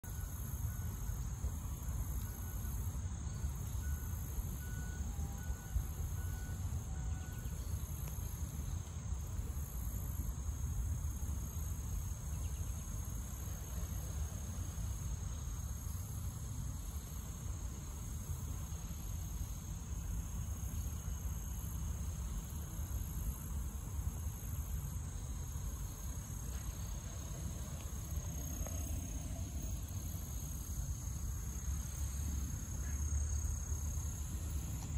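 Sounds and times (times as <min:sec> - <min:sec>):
constant low rumble: 0:00.0 - 0:34.9
insects chirring: 0:00.0 - 0:34.9.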